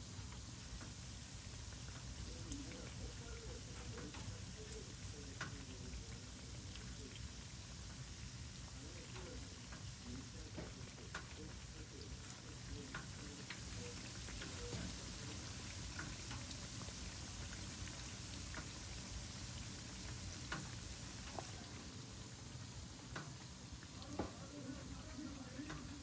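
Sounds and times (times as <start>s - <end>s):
hot oil sizzling: 0.0s - 26.0s
oil pops and crackles: 0.1s - 26.0s.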